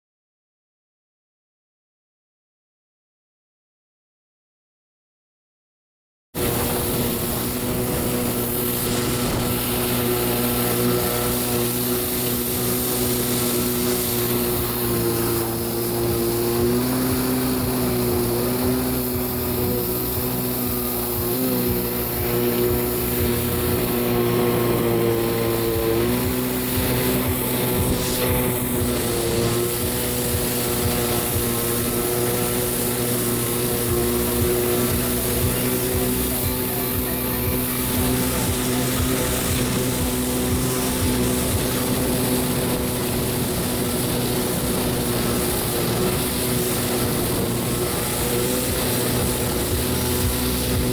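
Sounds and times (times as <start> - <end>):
jet ski engine running: 6.4 - 50.9
steady hiss: 6.4 - 50.9.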